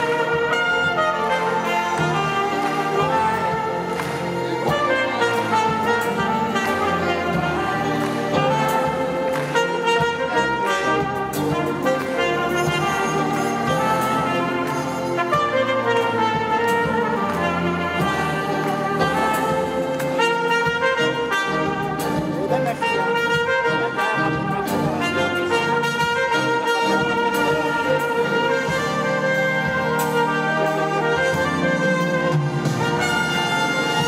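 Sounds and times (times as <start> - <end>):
orchestra with strings: 0.0 - 34.0
solo trumpet melody: 0.0 - 34.0.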